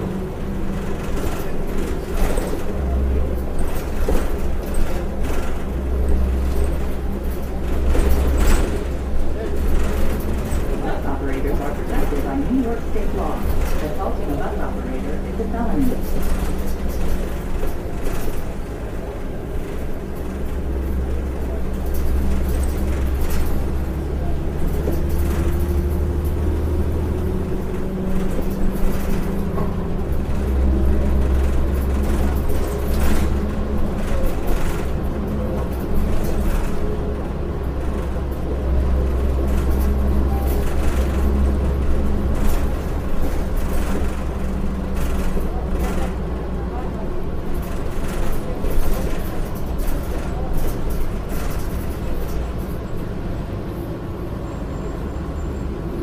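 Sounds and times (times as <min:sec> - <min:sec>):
interior clicks and rattles: 0:00.0 - 0:53.9
bus diesel engine rumble: 0:00.0 - 0:56.0.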